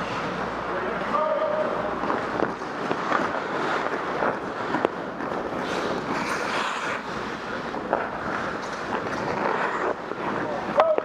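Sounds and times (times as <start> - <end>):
ice skate blades scraping: 1.9 - 11.0.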